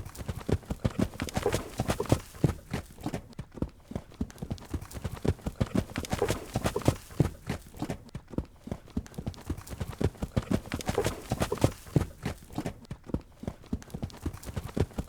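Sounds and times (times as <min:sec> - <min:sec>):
horse hooves on hard ground: 0:00.0 - 0:15.0.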